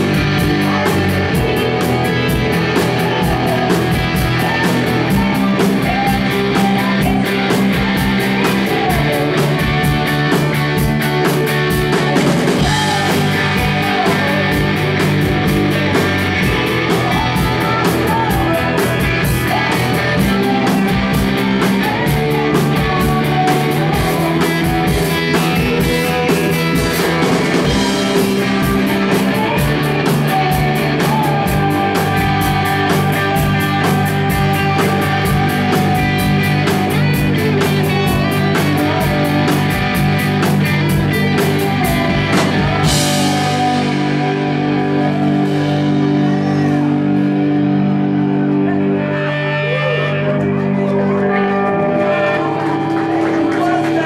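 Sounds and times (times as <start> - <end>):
woman singing: 0.0 - 46.8
drum kit: 0.0 - 49.0
electric guitar: 0.0 - 54.0.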